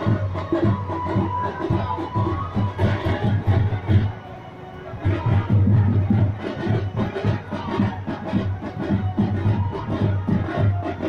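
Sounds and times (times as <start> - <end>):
music with fast drumbeat: 0.0 - 11.0.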